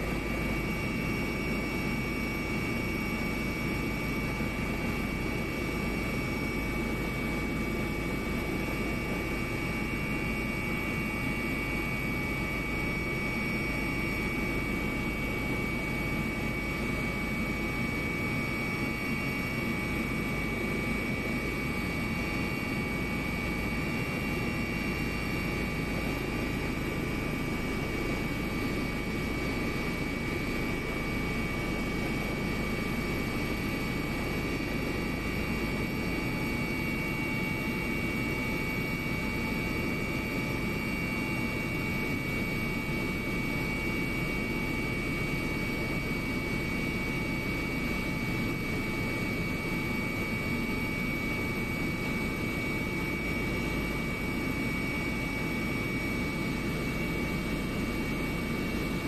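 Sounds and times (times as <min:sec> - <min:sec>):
jet engine and airflow drone: 0:00.0 - 0:59.0.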